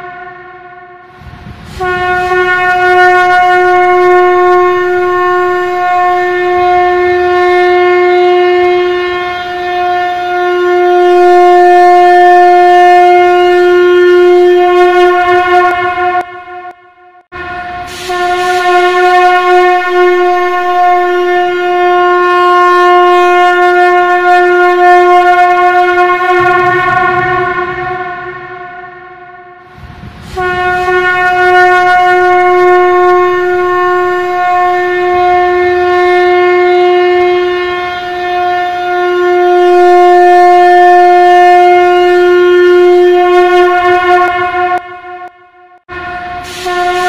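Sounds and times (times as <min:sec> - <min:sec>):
conch shell blast: 0:00.0 - 0:47.0.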